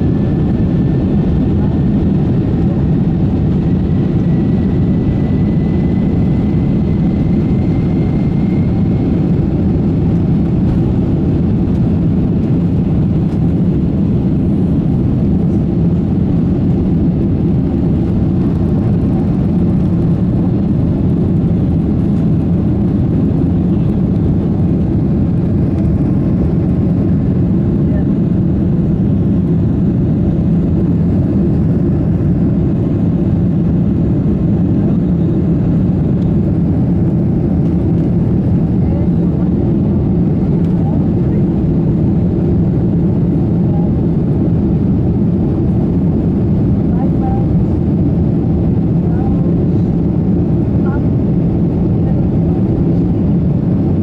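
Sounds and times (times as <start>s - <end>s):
jet engine rumble: 0.0s - 54.0s.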